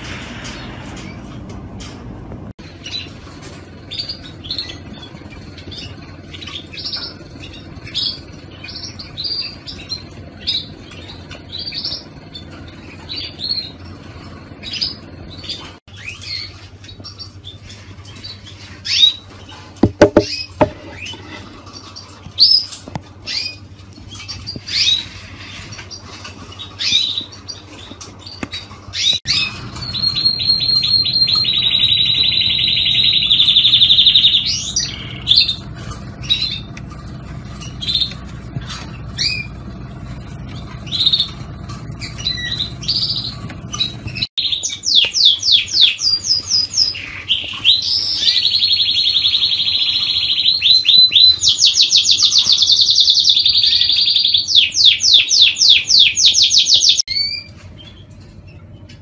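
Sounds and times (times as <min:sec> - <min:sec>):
canary singing trills: 0:02.6 - 0:59.0.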